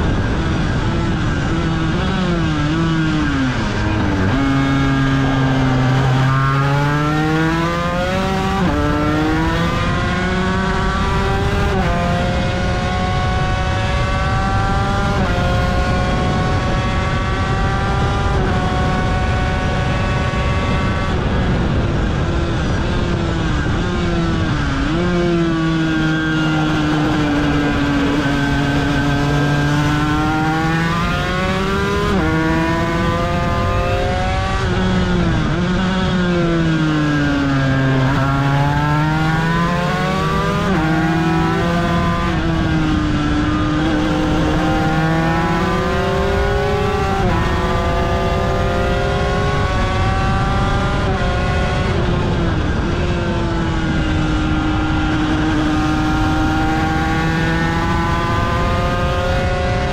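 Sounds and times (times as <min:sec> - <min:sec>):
racing motorcycle engine revving: 0:00.0 - 0:59.9.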